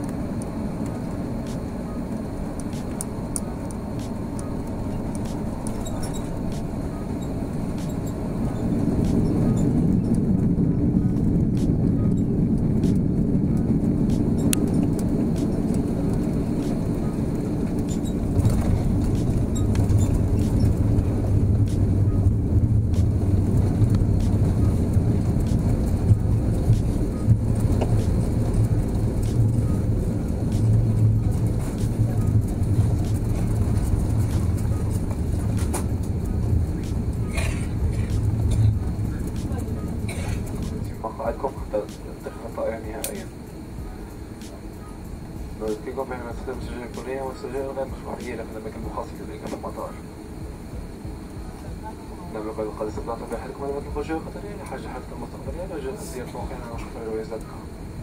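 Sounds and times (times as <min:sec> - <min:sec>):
aircraft engine and airflow noise: 0:00.0 - 0:58.0
deep runway rumble: 0:00.0 - 0:58.0.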